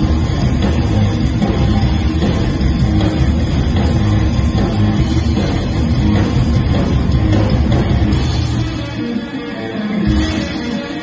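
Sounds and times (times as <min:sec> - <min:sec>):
bass guitar: 0:00.0 - 0:11.0
drums: 0:00.0 - 0:11.0
electric guitar: 0:00.0 - 0:11.0.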